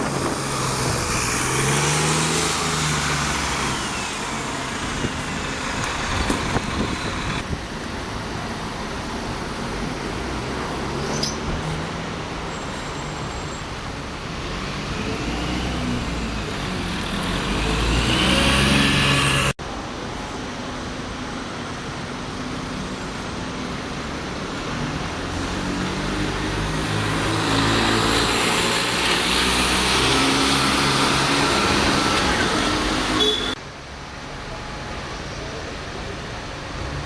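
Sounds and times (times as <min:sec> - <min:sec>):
bus engines in traffic: 0:00.0 - 0:37.0.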